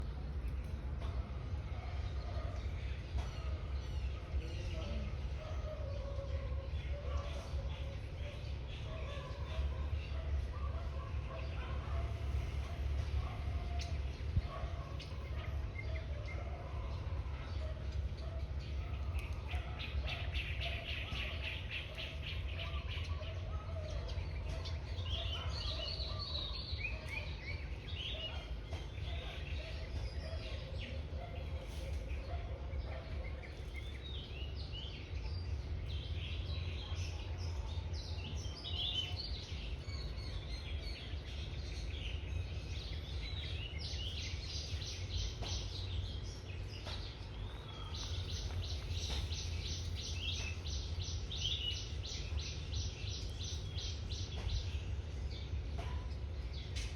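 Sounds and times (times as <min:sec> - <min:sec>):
birds calling and chirping: 0:00.0 - 0:56.9.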